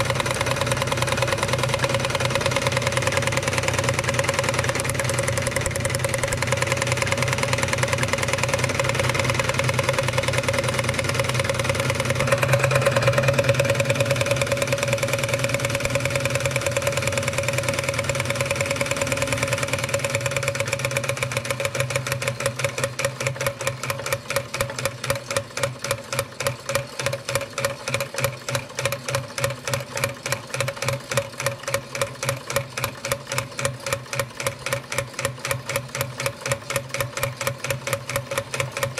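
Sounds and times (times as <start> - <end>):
toy steam engine chuffing: 0.0 - 38.9.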